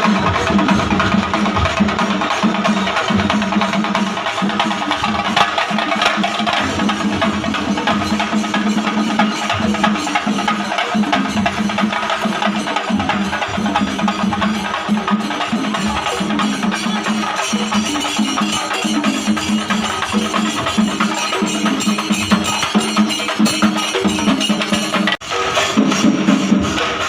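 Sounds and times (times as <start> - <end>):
fast drumming: 0.0 - 27.0.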